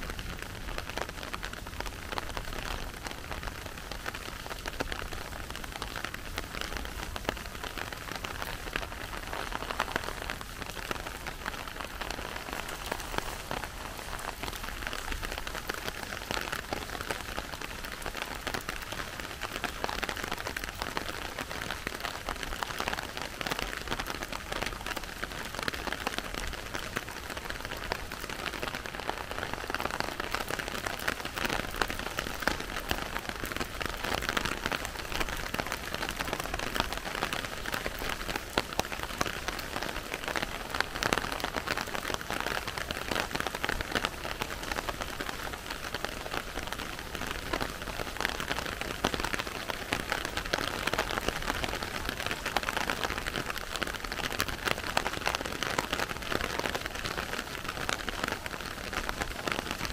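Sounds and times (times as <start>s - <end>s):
rain hiss: 0.0s - 59.9s
rain pattering: 0.0s - 59.9s.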